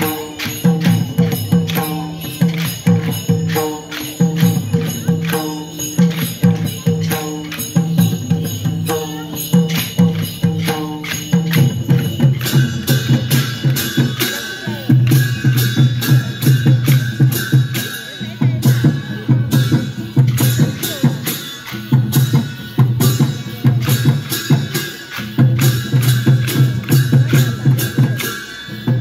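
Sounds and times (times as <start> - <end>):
cymbals clashing: 0.0 - 29.0
drums beating: 0.0 - 29.0.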